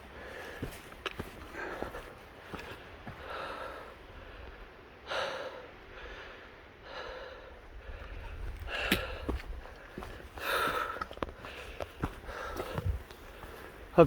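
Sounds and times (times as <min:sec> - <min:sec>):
person breathing hard: 0:00.1 - 0:13.9.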